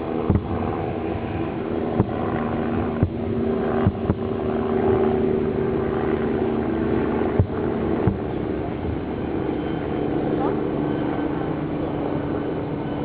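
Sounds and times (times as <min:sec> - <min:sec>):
motor drone: 0:00.0 - 0:13.0.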